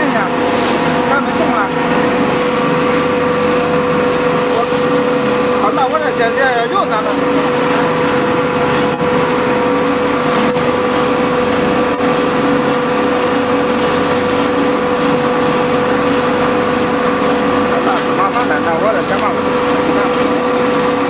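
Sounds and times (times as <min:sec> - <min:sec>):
mortar mixer running: 0:00.0 - 0:21.0.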